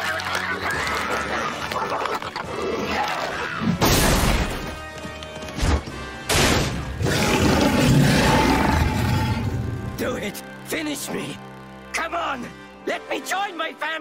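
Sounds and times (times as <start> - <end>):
dramatic cartoon music: 0.0 - 14.0.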